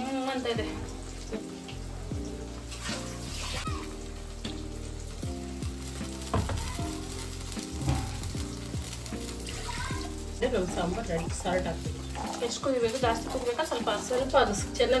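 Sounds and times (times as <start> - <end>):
food sizzling in pan: 0.0 - 15.0.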